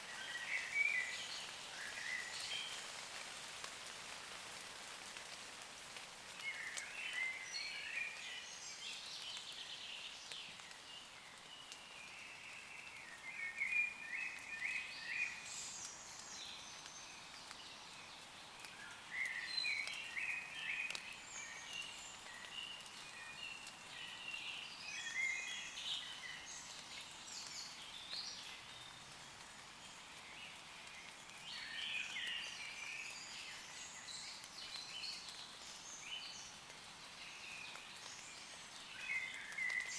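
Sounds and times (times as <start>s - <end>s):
light rain hiss: 0.0s - 39.9s.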